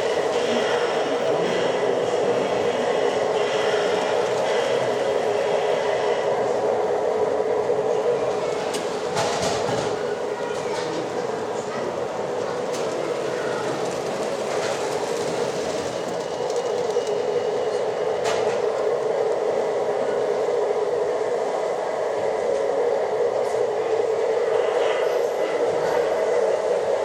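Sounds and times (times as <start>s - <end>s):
model train whirring hum: 0.0s - 27.0s.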